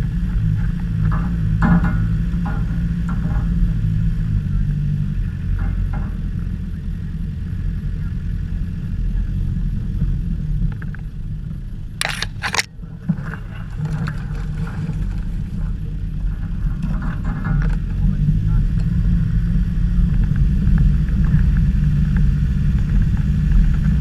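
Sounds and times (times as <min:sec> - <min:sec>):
engine and drivetrain rumble: 0:00.0 - 0:24.0.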